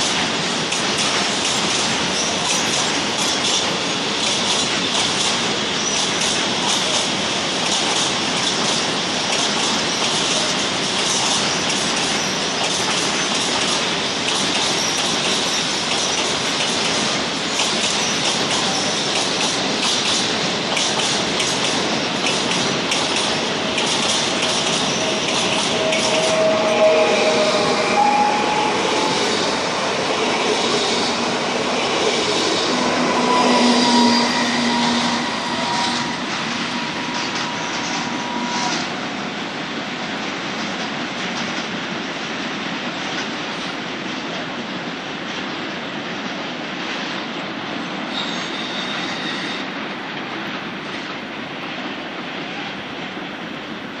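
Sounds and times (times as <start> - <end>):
electric train rolling along track: 0.0 - 54.0.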